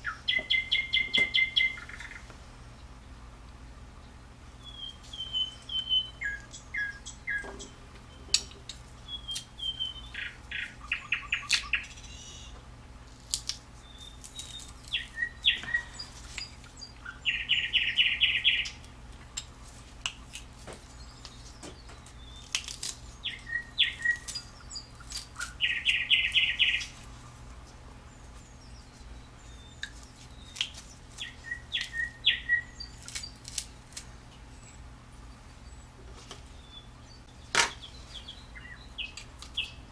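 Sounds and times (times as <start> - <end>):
songbird chirping and trilling: 0.0 - 12.6, 13.2 - 39.9.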